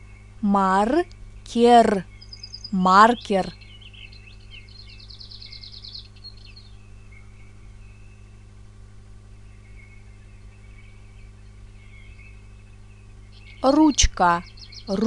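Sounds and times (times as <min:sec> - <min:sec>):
steady low hum: 0:00.0 - 0:15.0
small bird trilling and chirping: 0:01.5 - 0:08.4, 0:09.4 - 0:15.0.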